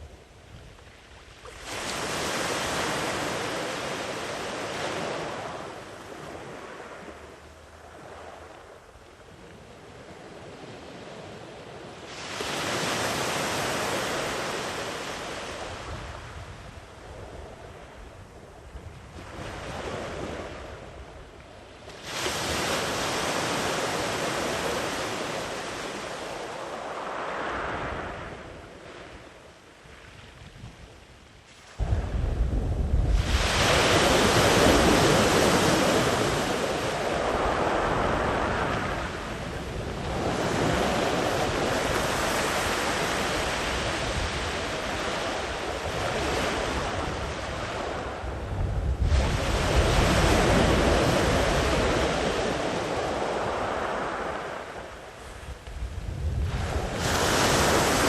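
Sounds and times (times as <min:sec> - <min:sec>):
ocean waves breaking on beach: 0:00.0 - 0:30.8, 0:31.4 - 0:58.0
wind on microphone: 0:00.0 - 0:58.0.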